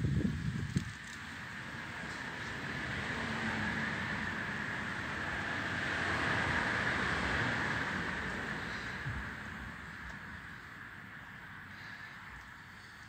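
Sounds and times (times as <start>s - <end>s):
distant vehicle passing: 1.3s - 13.0s.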